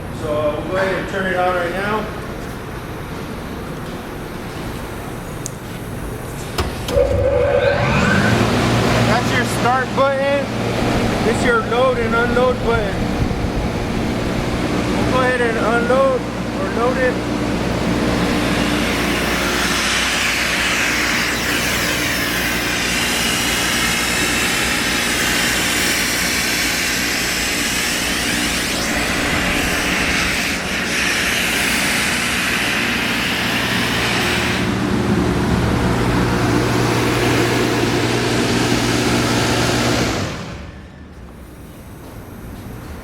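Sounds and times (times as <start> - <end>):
air compressor running: 4.8 - 43.0.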